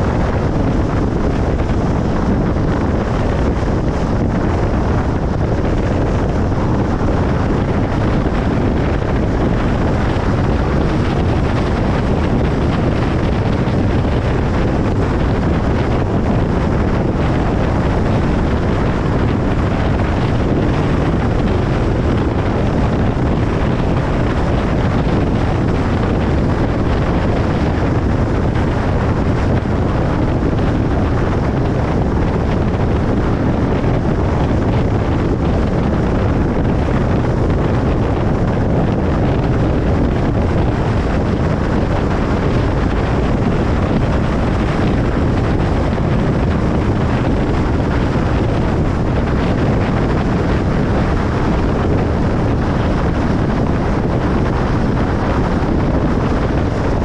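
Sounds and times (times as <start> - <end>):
car road noise: 0.0 - 57.0.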